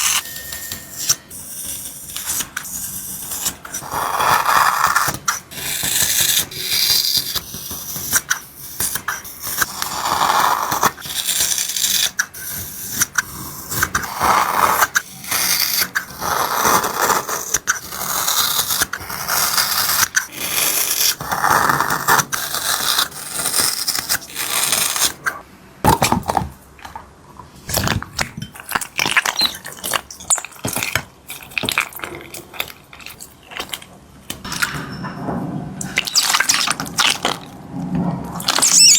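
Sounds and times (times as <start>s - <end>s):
hard objects scraping and clicking: 0.0s - 38.9s.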